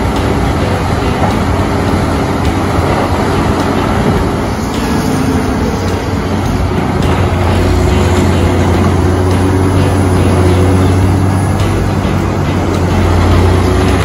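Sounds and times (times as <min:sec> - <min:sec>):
diesel engine drone: 0:00.0 - 0:14.0
wood grinding through mill: 0:00.0 - 0:14.0.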